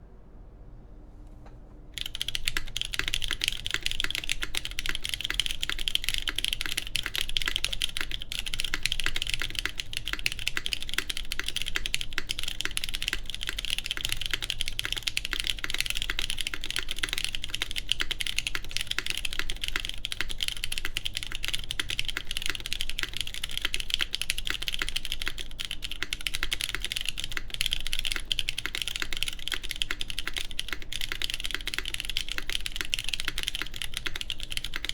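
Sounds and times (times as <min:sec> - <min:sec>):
fast typing on mechanical keyboard: 0:02.0 - 0:34.9.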